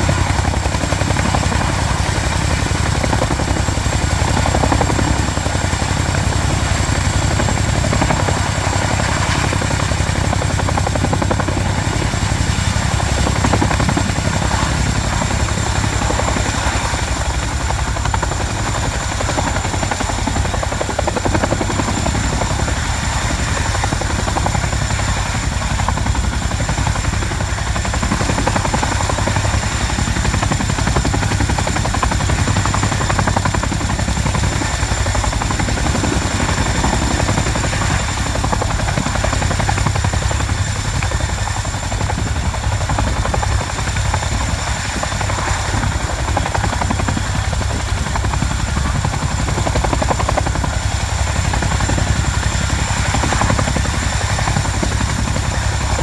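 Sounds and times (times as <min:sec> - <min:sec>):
helicopter rotor noise: 0:00.0 - 0:56.0
high turbine whine: 0:00.0 - 0:56.0.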